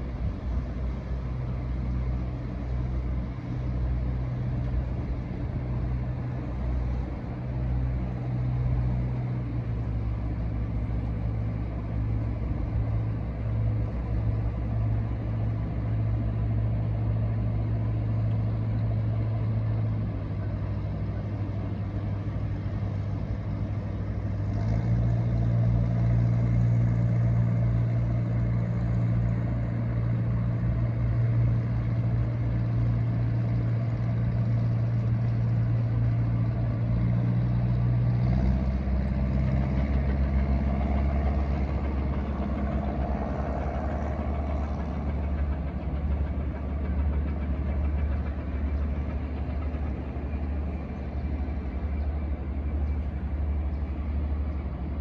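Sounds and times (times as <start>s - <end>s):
low engine running: 0.0s - 55.0s.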